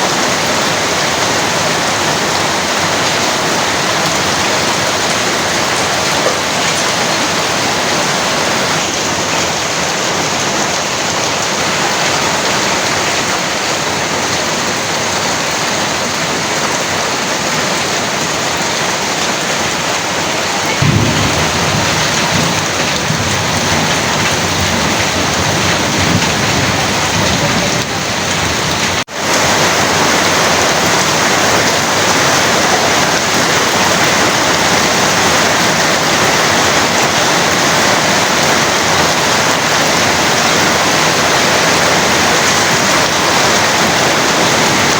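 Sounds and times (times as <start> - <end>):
heavy rain pouring: 0.0 - 44.9
thunder rumbling: 0.1 - 13.1, 19.4 - 44.9.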